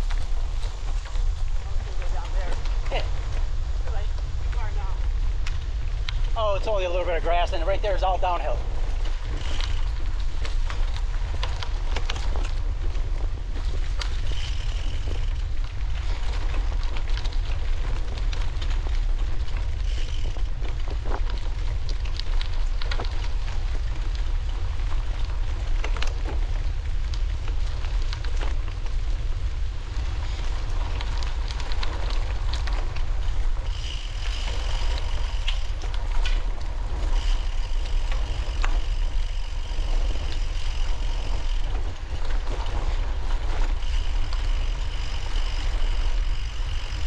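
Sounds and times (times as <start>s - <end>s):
wind rumble on microphone: 0.0s - 47.0s.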